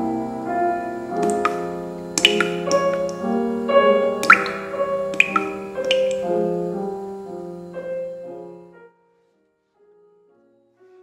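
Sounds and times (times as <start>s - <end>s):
solo piano music: 0.0s - 11.0s.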